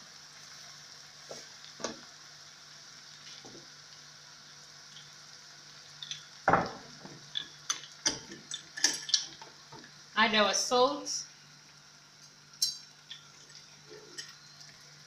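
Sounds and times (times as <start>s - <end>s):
vegetables sizzling in pan: 0.0s - 15.0s.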